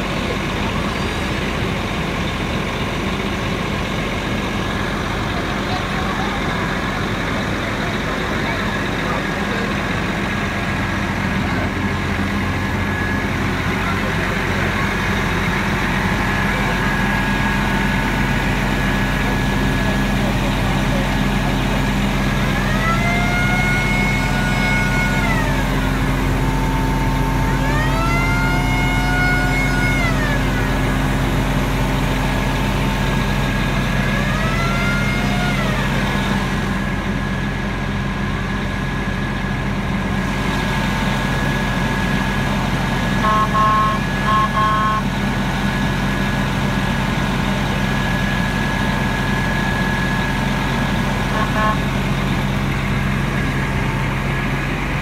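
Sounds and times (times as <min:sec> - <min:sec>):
diesel engine drone: 0:00.0 - 0:55.0
pump whine rising and falling: 0:00.0 - 0:55.0.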